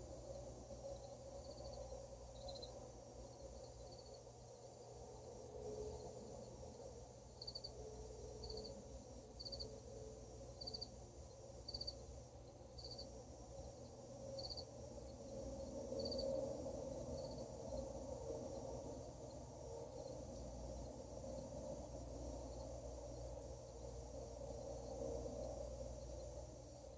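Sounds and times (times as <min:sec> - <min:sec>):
cricket chirping: 0:00.0 - 0:26.9
faint low wavering hum: 0:00.0 - 0:26.9.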